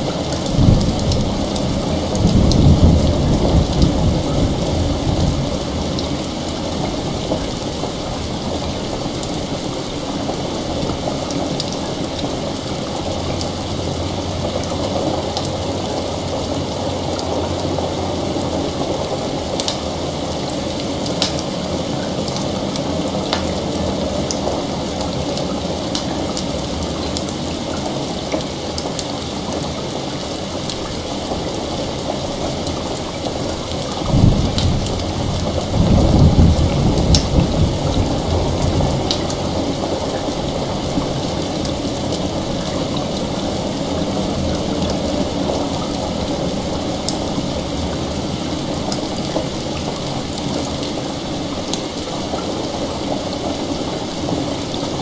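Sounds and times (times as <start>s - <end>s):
fire crackling: 0.0s - 55.0s
steady rain: 0.0s - 55.0s.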